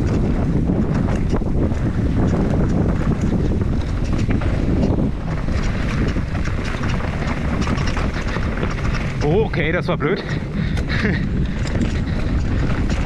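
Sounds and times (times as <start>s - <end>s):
bike clicking and knocking: 0.0s - 13.0s
tyres rolling over dirt trail: 0.0s - 13.0s
wind rushing over microphone: 0.0s - 13.0s.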